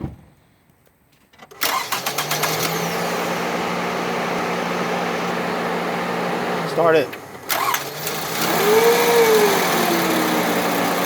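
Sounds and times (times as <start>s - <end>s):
car engine starting and idling: 1.4s - 11.0s.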